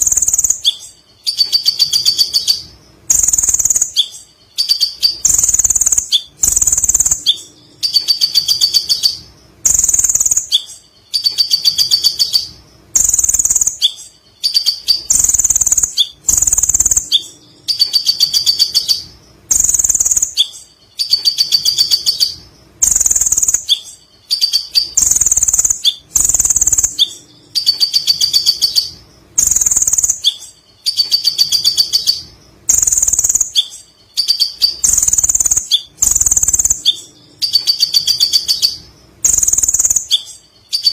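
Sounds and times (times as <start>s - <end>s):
sunbird chattering trill: 0.0s - 40.9s.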